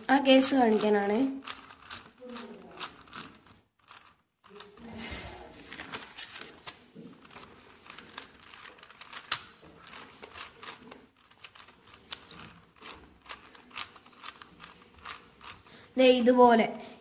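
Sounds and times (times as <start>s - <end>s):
puzzle cube layers clicking: 0.0s - 15.8s.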